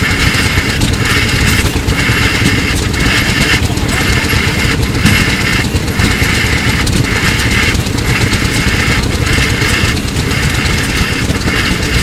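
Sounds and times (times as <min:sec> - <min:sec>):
steam engine hissing: 0:00.0 - 0:12.0
steam engine rumbling: 0:00.0 - 0:12.0.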